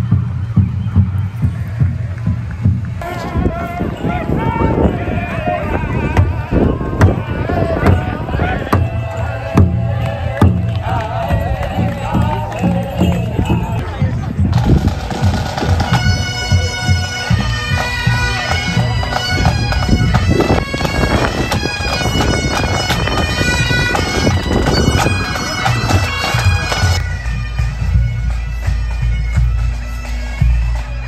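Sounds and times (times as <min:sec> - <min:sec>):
bagpipes playing over drones: 0:03.0 - 0:31.0.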